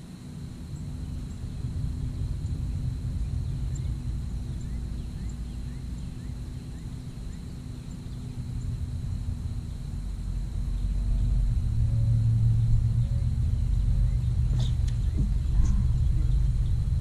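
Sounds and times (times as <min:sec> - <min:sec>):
faint constant hum: 0:00.0 - 0:17.0
steady low rumble: 0:00.0 - 0:17.0.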